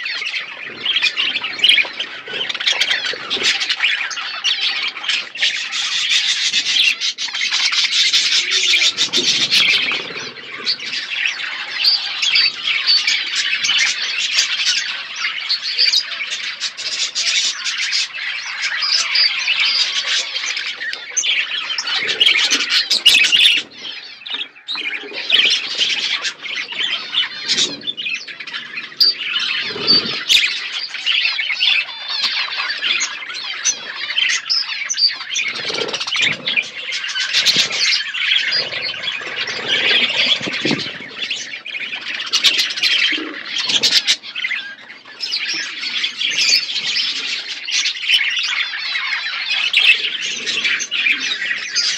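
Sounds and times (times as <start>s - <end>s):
budgerigars chattering: 0.0s - 51.9s.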